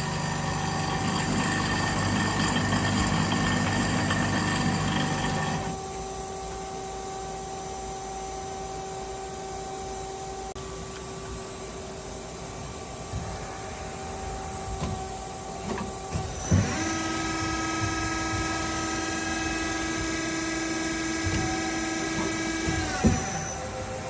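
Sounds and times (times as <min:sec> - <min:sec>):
machine hum: 0:00.0 - 0:06.7, 0:10.2 - 0:24.0
motor whine: 0:00.0 - 0:06.8, 0:08.6 - 0:24.0.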